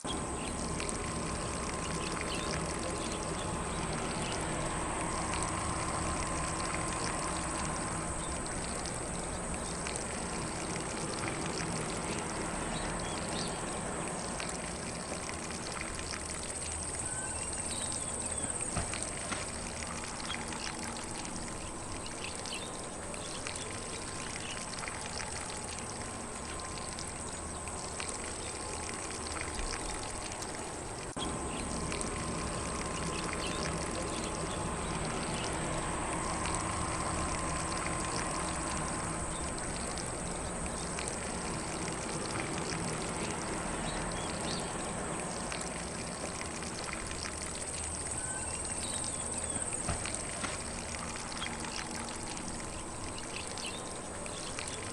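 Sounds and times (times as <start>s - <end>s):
faint birdsong: 0.0s - 54.9s
lawn sprinkler spraying water: 0.0s - 54.9s.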